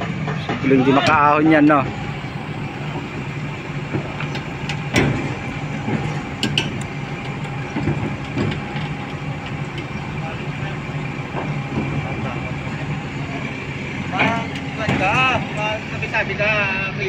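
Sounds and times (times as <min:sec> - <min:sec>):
crane diesel engine under load: 0:00.0 - 0:17.0
steel tracks clanking: 0:00.0 - 0:17.0.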